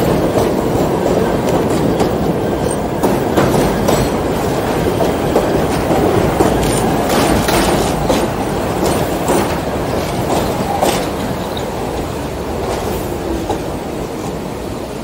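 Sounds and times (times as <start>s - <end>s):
wheels clicking over rail joints: 0.0s - 13.8s
train wheels rumbling on rail: 0.0s - 15.0s.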